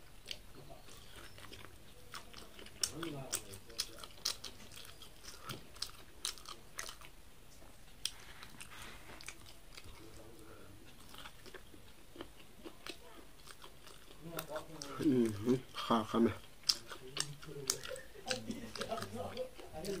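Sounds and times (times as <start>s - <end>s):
corn on the cob chewed: 0.0s - 7.2s, 7.8s - 20.0s.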